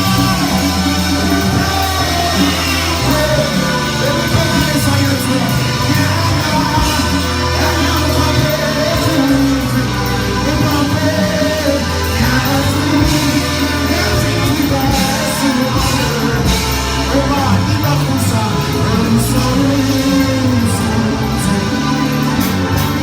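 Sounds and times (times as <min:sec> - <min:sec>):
band with bass: 0:00.0 - 0:23.0
person singing gospel: 0:00.0 - 0:23.0.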